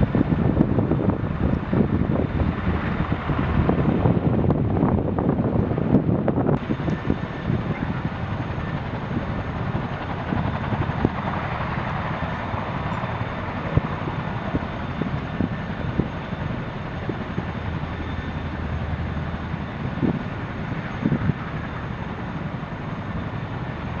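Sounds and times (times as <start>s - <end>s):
helicopter turbine and rotor noise: 0.0s - 24.0s.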